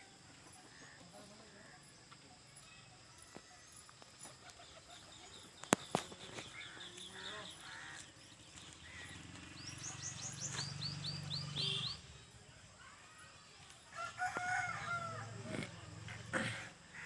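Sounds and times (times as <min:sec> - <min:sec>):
birds chirping: 0:03.2 - 0:17.0.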